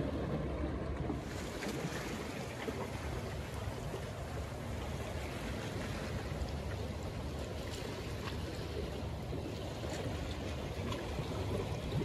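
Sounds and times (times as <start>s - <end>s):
faint water splashes: 0.0s - 12.0s
waves lapping among rocks: 0.0s - 12.0s.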